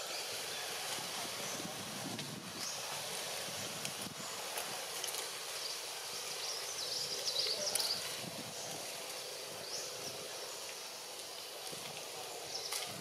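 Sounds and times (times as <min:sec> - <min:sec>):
steady hiss: 0:00.0 - 0:13.0
birds chirping: 0:02.5 - 0:13.0.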